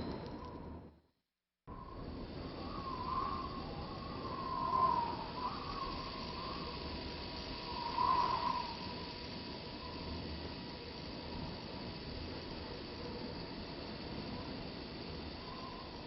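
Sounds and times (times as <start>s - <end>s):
wavering whine: 0.0s - 1.0s, 1.7s - 16.0s
rushing hiss: 1.8s - 16.0s.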